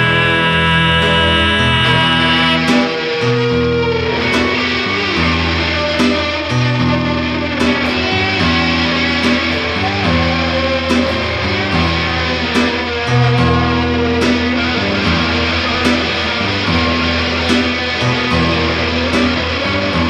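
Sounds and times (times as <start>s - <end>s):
bass notes: 0.0s - 20.0s
electric guitar lead solo: 0.0s - 20.0s
piano chords: 0.0s - 20.0s.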